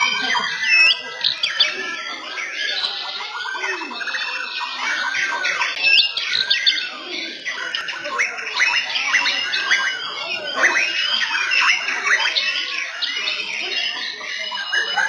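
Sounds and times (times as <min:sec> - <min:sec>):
caged songbirds singing: 0:00.0 - 0:15.0.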